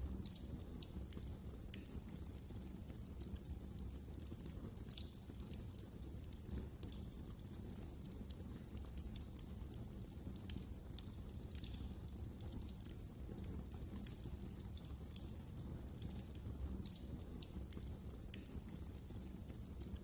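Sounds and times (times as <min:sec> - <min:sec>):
low rumble of burning logs: 0:00.0 - 0:20.0
wood fire crackling: 0:00.0 - 0:20.0.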